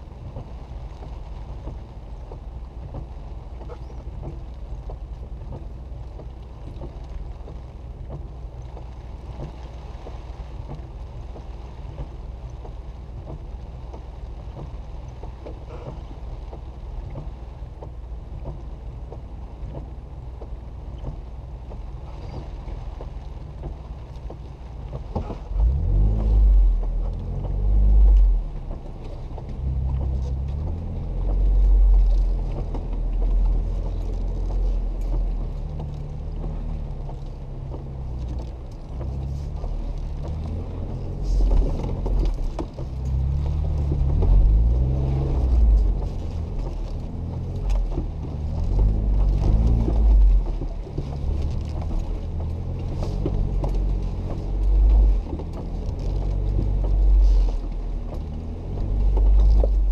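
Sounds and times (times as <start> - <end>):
car engine running low: 0.0 - 59.9.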